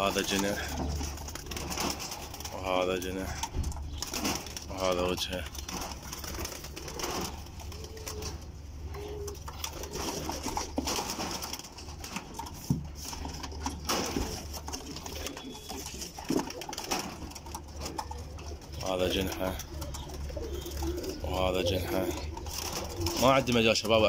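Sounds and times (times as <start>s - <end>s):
pigeons cooing: 0.0s - 24.0s
rustles and knocks of birds handled: 0.0s - 24.0s.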